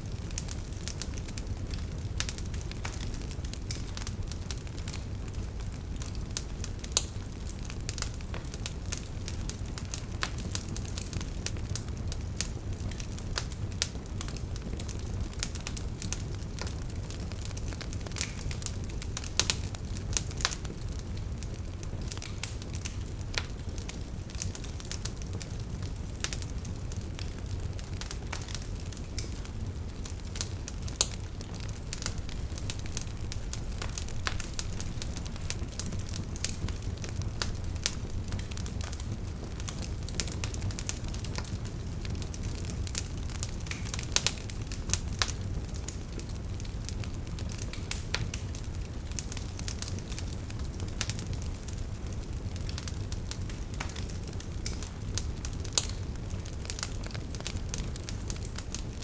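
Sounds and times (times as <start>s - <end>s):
campfire crackling and popping: 0.0s - 59.0s
low rumble of flames: 0.0s - 59.0s.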